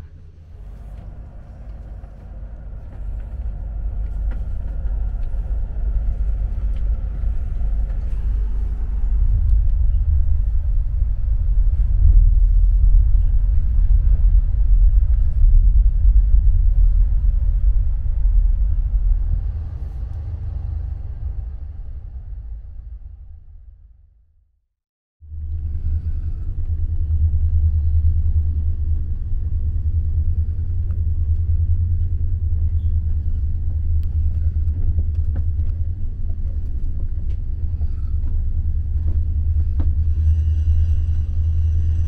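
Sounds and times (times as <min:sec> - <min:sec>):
train rumbling on rails: 0:00.0 - 0:23.9, 0:25.2 - 0:42.0.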